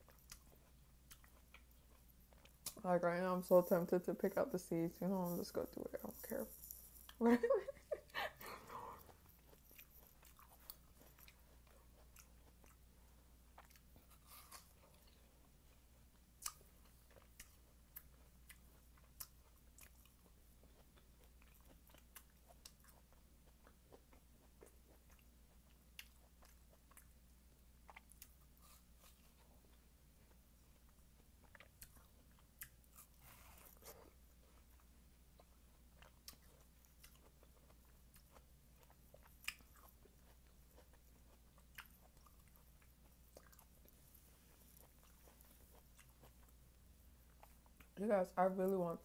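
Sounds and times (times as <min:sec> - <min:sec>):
chewing watermelon: 0:00.0 - 0:49.0.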